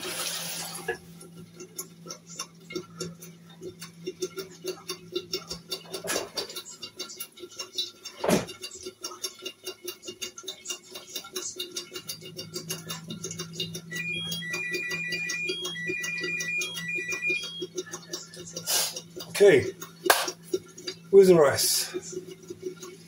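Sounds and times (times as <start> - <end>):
stew simmering with small pops: 0.0 - 23.0.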